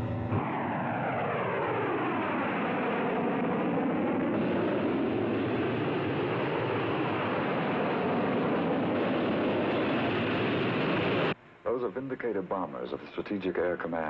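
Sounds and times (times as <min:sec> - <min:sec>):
jet bomber engines passing: 0:00.0 - 0:11.4.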